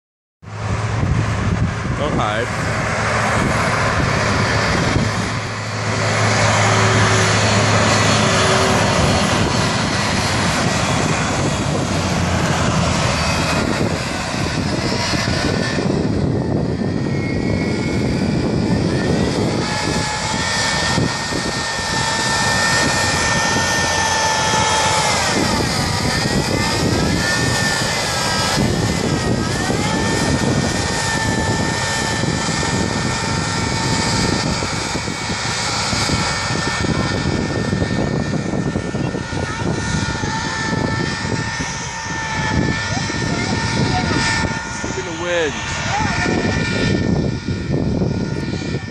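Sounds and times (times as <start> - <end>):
aircraft engine droning: 0.4 - 48.9
heavy wind noise: 0.4 - 48.9.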